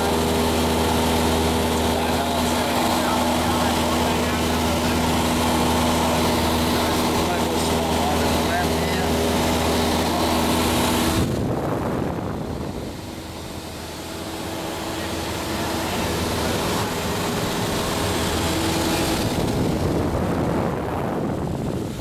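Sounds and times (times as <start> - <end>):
light aircraft engine droning in cabin: 0.0 - 22.0.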